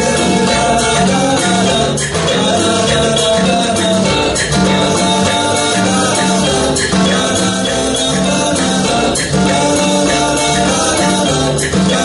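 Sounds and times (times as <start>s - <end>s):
live band playing calypso: 0.0s - 12.0s.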